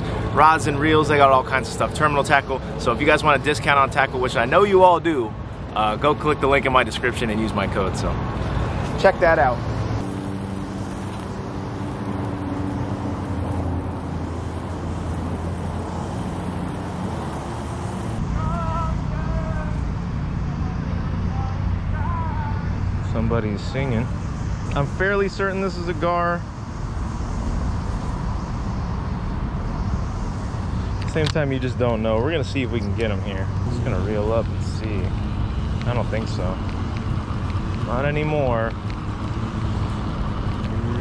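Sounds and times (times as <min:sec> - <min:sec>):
engine hum: 0:00.0 - 0:41.0
low outdoor rumble: 0:00.0 - 0:41.0
traffic drone: 0:00.0 - 0:41.0.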